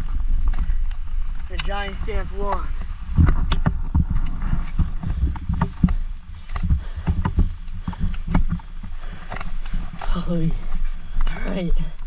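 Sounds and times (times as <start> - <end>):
bike knocking and rattling: 0.0 - 12.0
bike tyres rumbling and splashing: 0.0 - 12.0.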